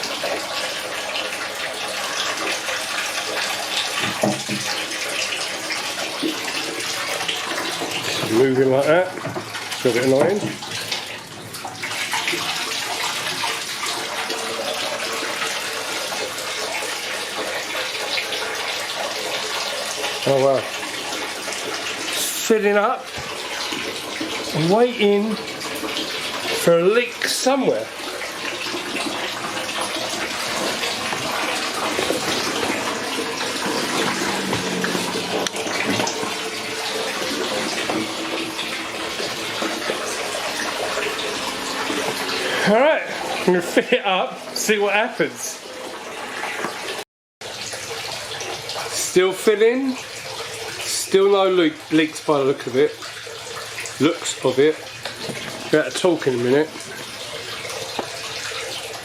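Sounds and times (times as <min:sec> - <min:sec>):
water running into aquarium: 0:00.0 - 0:59.0.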